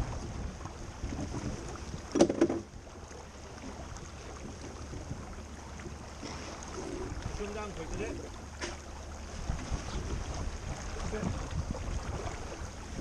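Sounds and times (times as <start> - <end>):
low rumble against microphone: 0.0 - 13.0
wind and water noise: 0.0 - 13.0.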